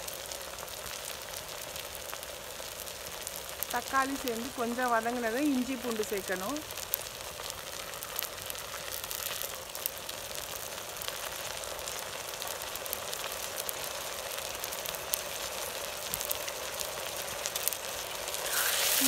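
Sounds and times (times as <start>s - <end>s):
oil crackling and popping: 0.0s - 19.0s
vegetables sizzling in oil: 0.0s - 19.0s.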